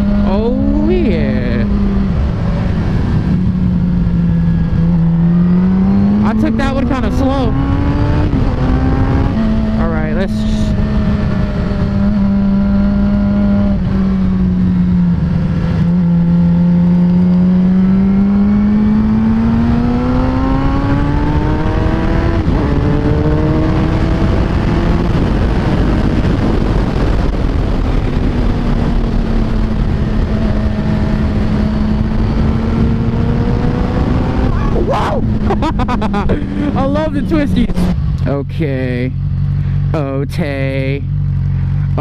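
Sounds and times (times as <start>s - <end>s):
wind rushing over microphone: 0.0s - 38.3s
motorcycle engine running: 0.0s - 42.0s.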